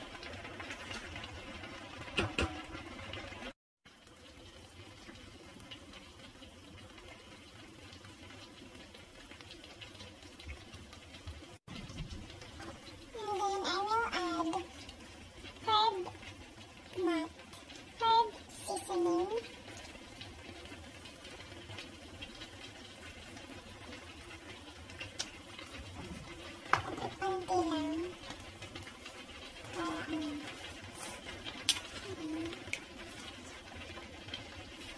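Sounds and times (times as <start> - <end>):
sauce bubbling in a frying pan: 0.0 - 34.9.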